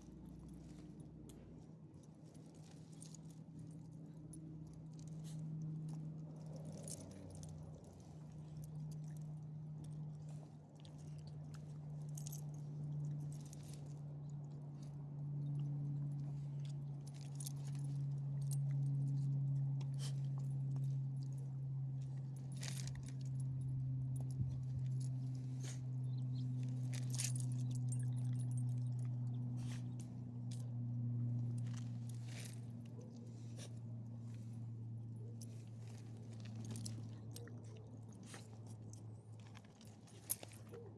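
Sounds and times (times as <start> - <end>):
light clicks and jingles: 0.0 - 40.9.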